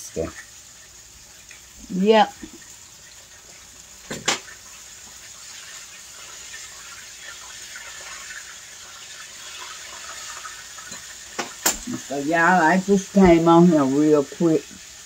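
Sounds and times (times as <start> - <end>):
wings sizzling in hot oil: 0.0 - 15.0.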